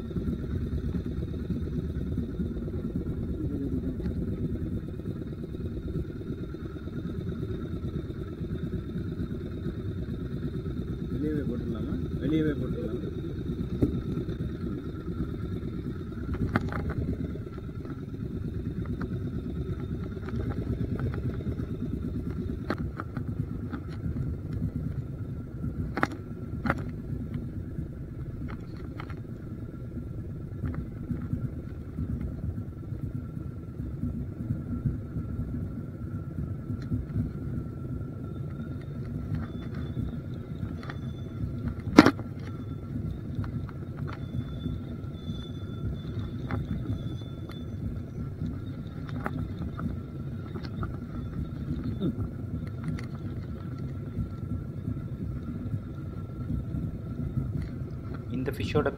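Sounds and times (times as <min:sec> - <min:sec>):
engine rumbling: 0:00.0 - 0:58.9
faint high whine: 0:00.0 - 0:58.9.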